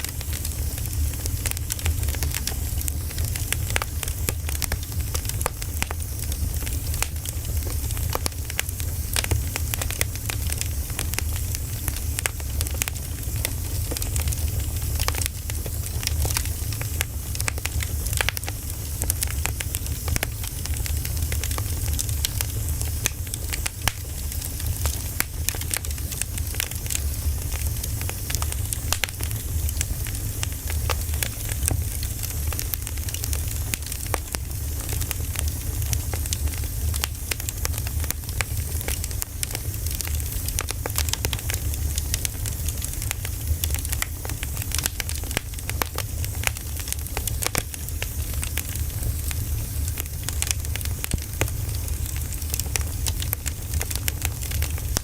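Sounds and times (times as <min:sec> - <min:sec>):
firewood crackling: 0:00.0 - 0:55.0.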